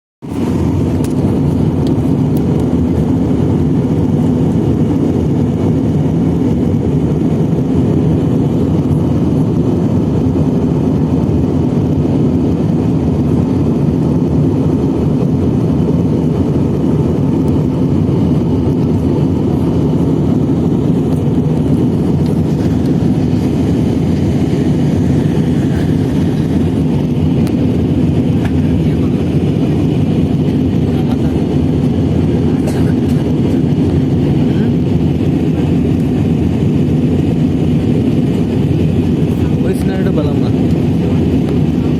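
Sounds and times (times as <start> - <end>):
aeroplane engine rumble: 0.2 - 41.9.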